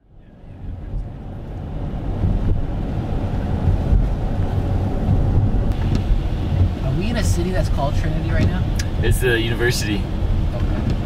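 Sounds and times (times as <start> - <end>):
car engine and road rumble: 0.0 - 11.0
wind buffeting microphone: 0.5 - 11.0.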